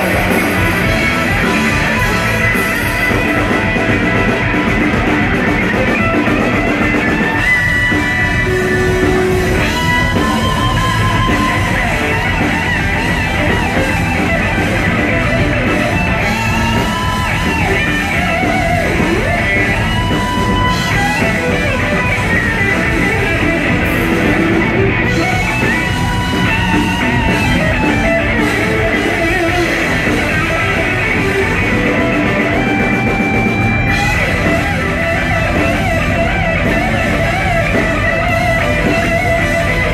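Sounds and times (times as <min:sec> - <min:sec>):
bass guitar: 0:00.0 - 0:39.9
drum kit: 0:00.0 - 0:39.9
electric lead guitar: 0:00.0 - 0:39.9.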